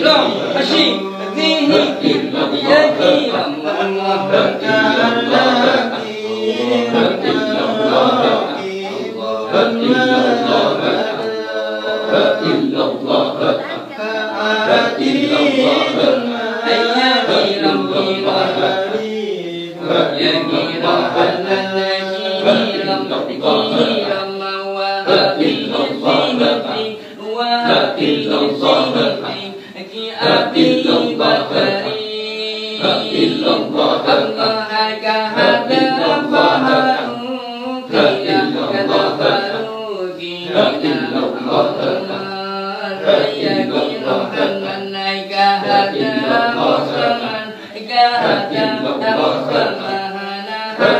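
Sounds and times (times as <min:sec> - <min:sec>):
men chanting together: 0:00.0 - 0:50.9.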